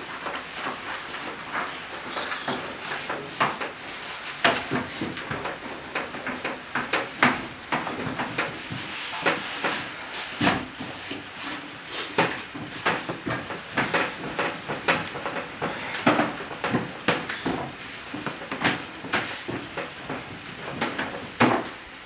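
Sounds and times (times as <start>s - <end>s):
knocks and clatter of food preparation: 0.0s - 21.8s
steady background noise: 0.0s - 22.0s.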